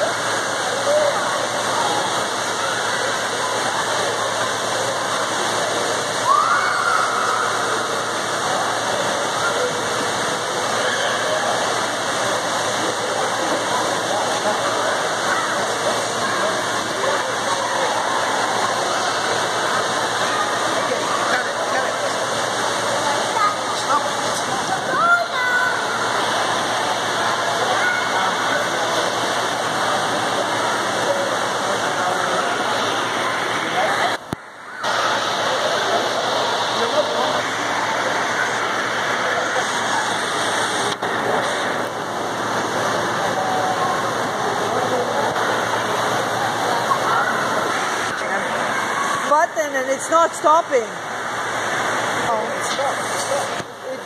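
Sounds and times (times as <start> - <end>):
faint echoing voices: 0.0 - 54.0
water splashing in pool: 0.0 - 54.0.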